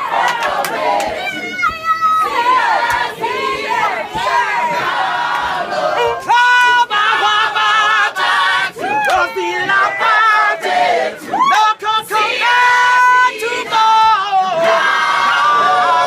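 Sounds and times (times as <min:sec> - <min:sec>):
crowd shouting: 0:00.0 - 0:16.0
group singing without accompaniment: 0:00.0 - 0:16.0.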